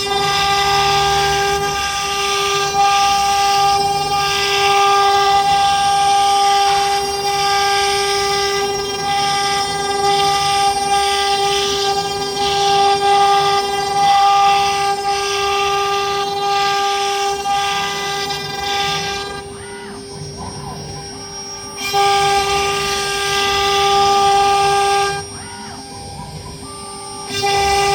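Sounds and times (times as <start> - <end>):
rasping wood cutting noise: 0.0 - 27.9
router spindle high whine: 0.0 - 27.9.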